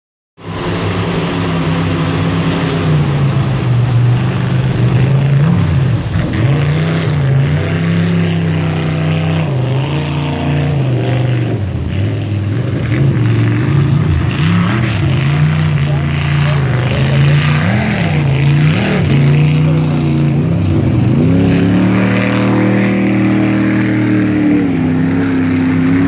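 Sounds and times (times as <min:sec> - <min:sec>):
jet boat engine at high revs: 0:00.4 - 0:26.0
rushing whitewater: 0:00.4 - 0:26.0.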